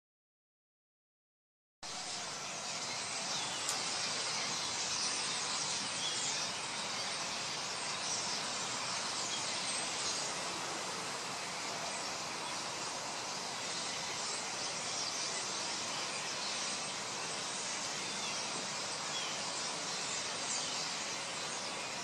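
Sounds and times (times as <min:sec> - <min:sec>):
flock of starlings chattering: 0:01.9 - 0:22.0.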